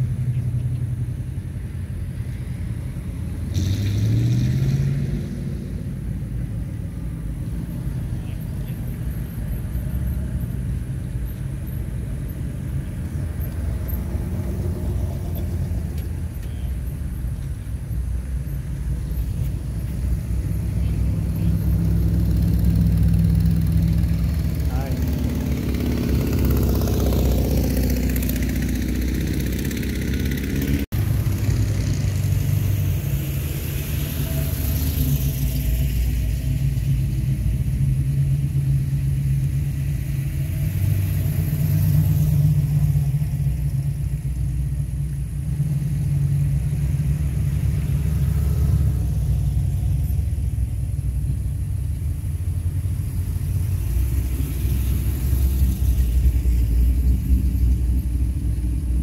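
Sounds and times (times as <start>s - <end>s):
car engines rumbling past: 0.0s - 59.0s.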